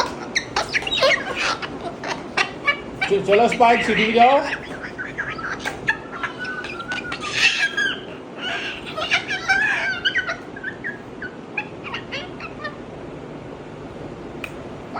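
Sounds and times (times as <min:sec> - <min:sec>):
parrot squawking and warbling: 0:00.0 - 0:12.8.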